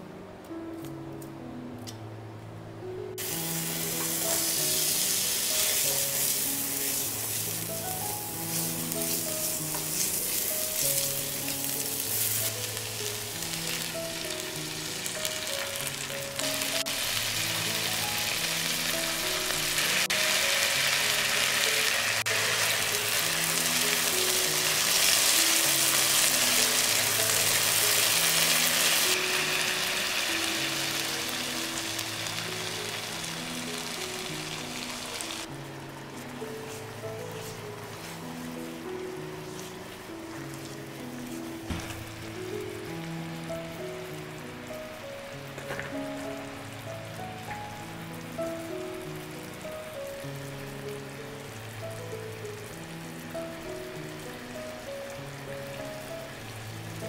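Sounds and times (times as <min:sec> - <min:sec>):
soft background music: 0:00.0 - 0:57.0
garlic and onion sizzling in oil: 0:03.2 - 0:57.0.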